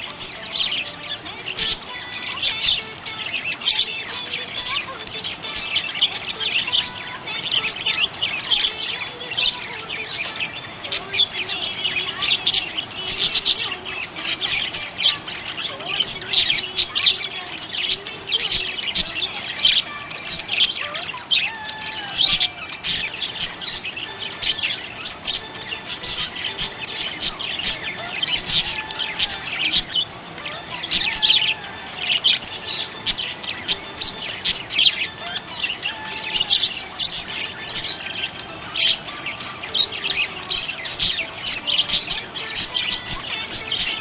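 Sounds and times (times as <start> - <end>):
budgerigars chirping and chattering: 0.0 - 44.0.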